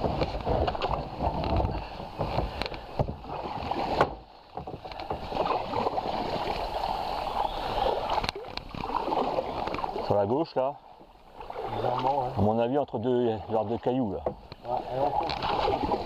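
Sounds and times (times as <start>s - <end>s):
canoe paddles dipping in water: 0.0s - 16.0s.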